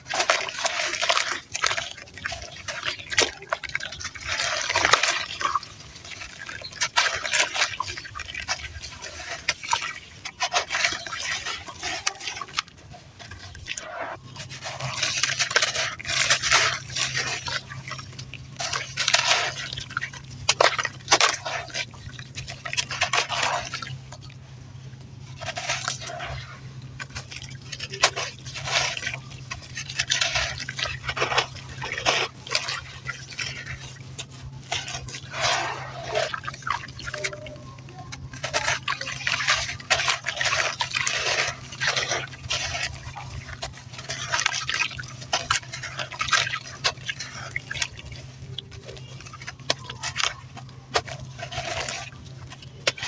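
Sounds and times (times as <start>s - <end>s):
dirt crunching being chewed: 0.0s - 53.0s
low steady hum: 0.0s - 53.0s.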